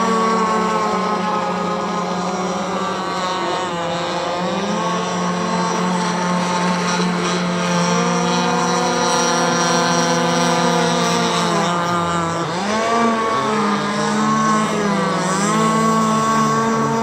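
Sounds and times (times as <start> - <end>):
model boat two-stroke engine buzzing: 0.0 - 17.0.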